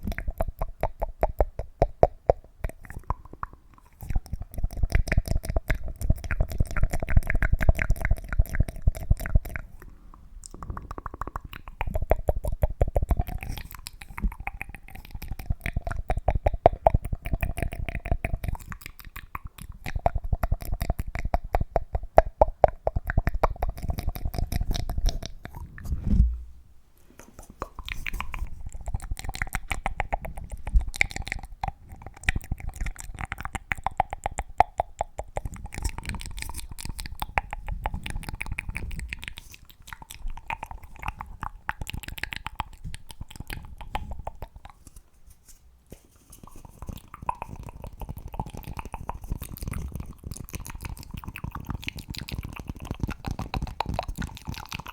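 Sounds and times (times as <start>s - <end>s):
mouth sounds: 0.0s - 26.6s, 27.2s - 54.9s.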